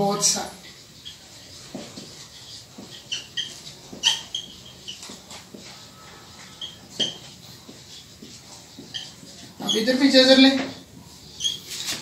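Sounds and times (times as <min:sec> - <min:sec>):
whiteboard marker squeaking: 0:00.1 - 0:12.0.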